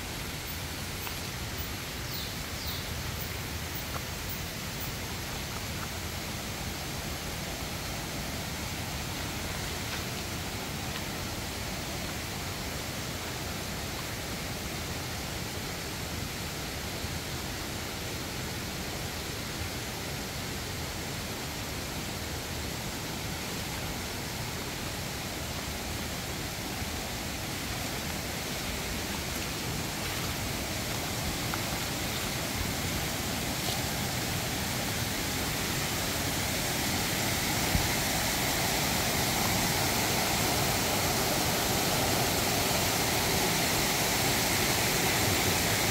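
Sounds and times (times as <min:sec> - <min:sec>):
stream running over rocks: 0:00.0 - 0:45.9.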